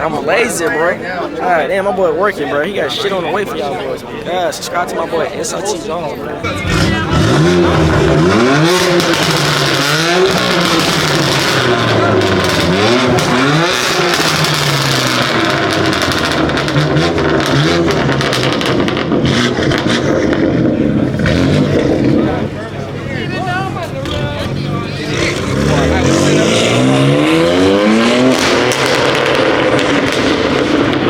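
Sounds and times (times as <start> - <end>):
car engine revving: 4.8 - 31.0.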